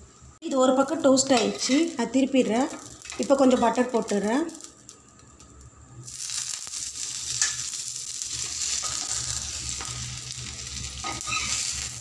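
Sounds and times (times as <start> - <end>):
butter sizzling on a hot pan: 0.6 - 12.0.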